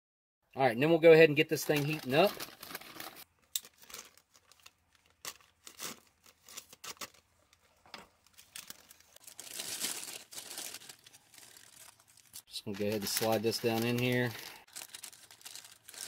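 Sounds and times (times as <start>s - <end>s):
plastic packaging crinkling: 1.6s - 7.6s, 8.2s - 16.0s.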